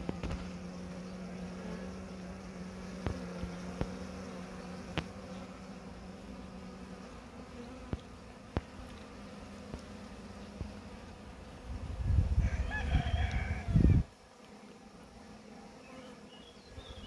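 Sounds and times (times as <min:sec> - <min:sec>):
bee humming close by: 0:00.0 - 0:17.0
honeybees buzzing: 0:00.0 - 0:17.0.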